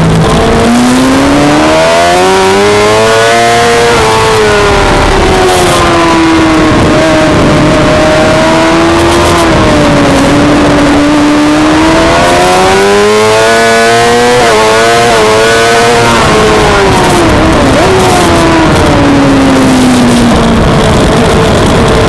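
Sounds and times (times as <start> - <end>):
motorcycle engine at high revs: 0.0 - 22.0
wind rush: 0.0 - 22.0.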